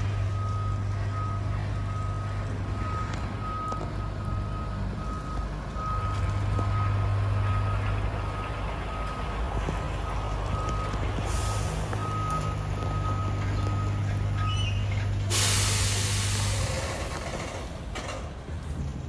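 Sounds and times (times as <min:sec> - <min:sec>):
reversing alarm beeping: 0:00.0 - 0:09.3, 0:10.0 - 0:16.4
truck low hum: 0:00.0 - 0:19.0.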